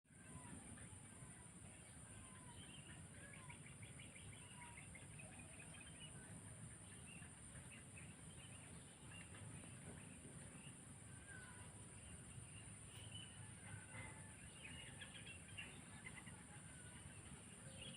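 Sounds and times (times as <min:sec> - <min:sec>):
birds chirping: 0:00.1 - 0:17.9.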